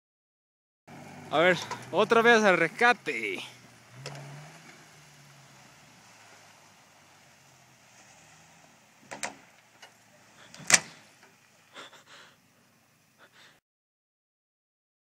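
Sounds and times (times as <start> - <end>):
faint engine hum: 0.9 - 13.5.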